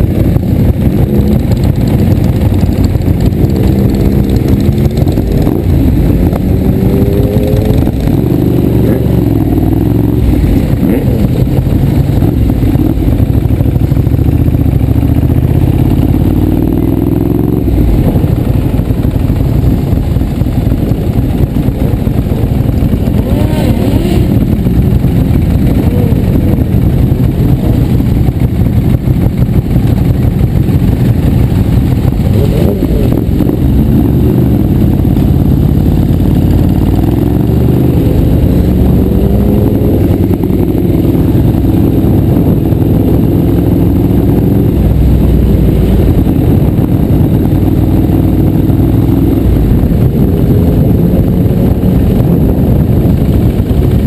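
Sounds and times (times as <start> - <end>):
heavy low rumble: 0.0 - 54.0
motorcycle engine accelerating: 0.0 - 54.0.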